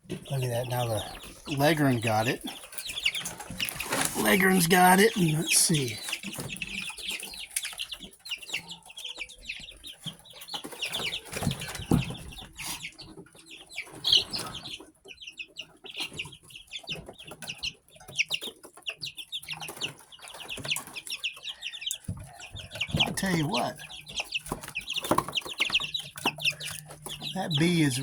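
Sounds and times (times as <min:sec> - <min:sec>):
chicks scrambling and scuffling: 0:00.0 - 0:28.0
young chickens peeping: 0:00.0 - 0:28.0.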